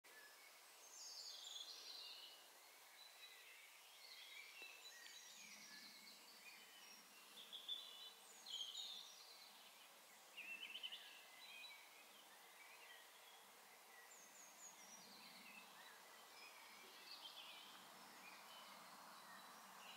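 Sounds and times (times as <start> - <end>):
birds chirping and warbling: 0.1 - 19.9
low background hiss: 0.1 - 19.9.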